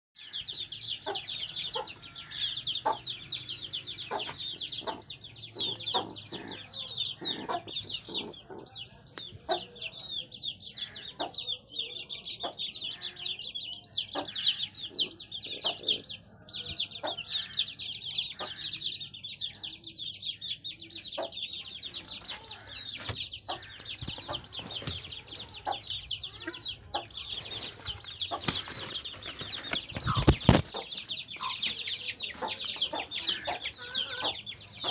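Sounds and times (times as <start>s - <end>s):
birds chirping in chorus: 0.2s - 34.9s.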